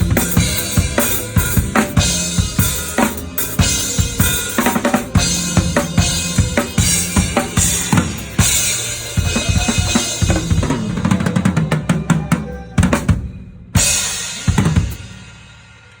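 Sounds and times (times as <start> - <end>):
bass notes: 0.0 - 15.1
drum kit playing: 0.0 - 16.0.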